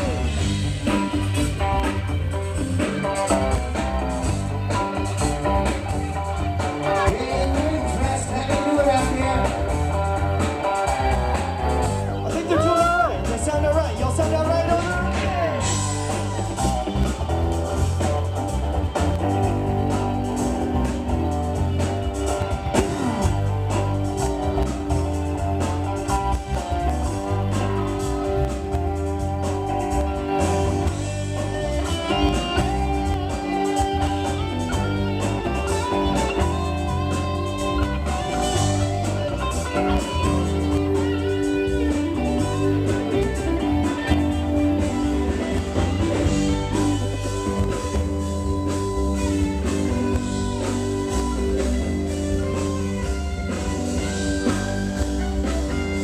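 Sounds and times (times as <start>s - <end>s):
electric guitar: 0.0s - 56.0s
rock blues band playing: 0.0s - 56.0s.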